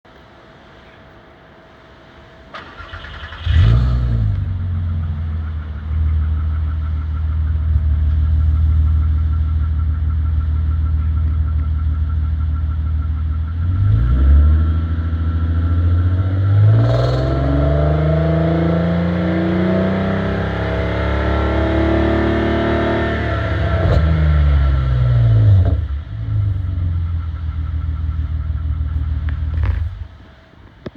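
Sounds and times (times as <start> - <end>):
car engine starting and revving: 2.5 - 10.1, 12.5 - 30.3.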